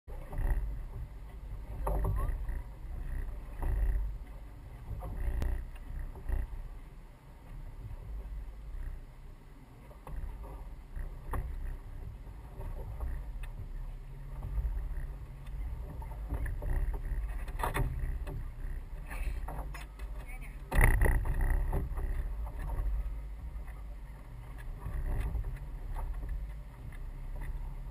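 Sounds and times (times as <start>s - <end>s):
rowboat hull and water rumble: 0.0s - 27.9s
oars knocking in oarlocks: 0.1s - 9.2s, 9.8s - 27.9s.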